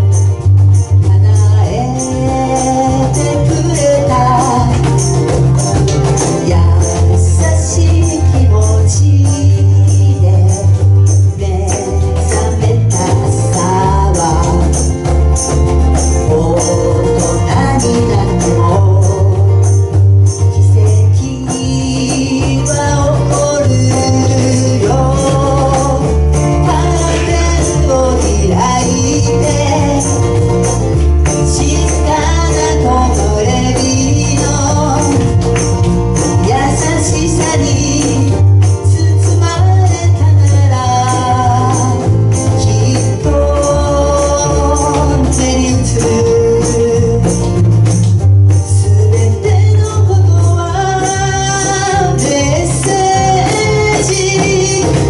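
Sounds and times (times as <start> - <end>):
acoustic guitar: 0.0 - 55.0
electric bass line: 0.0 - 55.0
keyboard: 0.0 - 55.0
women singing: 0.9 - 48.0, 48.6 - 55.0.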